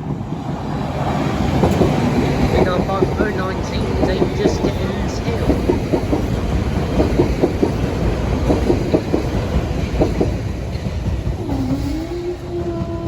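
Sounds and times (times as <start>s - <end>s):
train rumbling: 0.0s - 13.0s
wheels clicking over rail joints: 0.0s - 13.0s.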